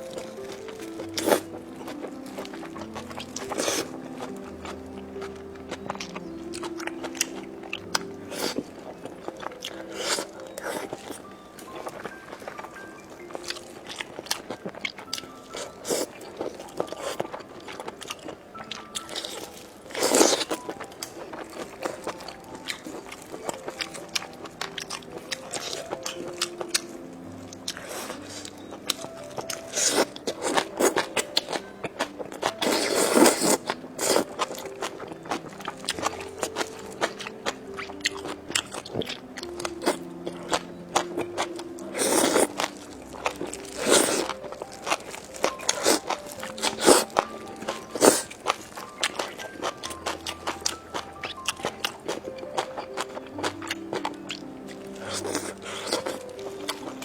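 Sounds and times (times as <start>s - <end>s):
crunching and chewing food: 0.0s - 57.0s
soft background music: 0.0s - 57.0s.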